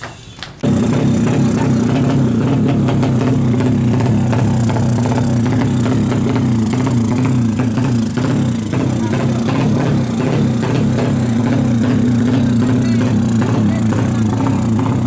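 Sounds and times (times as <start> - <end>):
motorcycle engine idling: 0.6 - 15.0.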